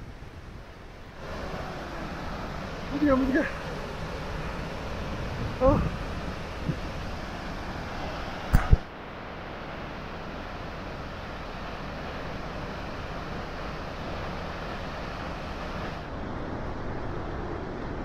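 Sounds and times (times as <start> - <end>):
waterfall rushing: 1.1 - 18.0.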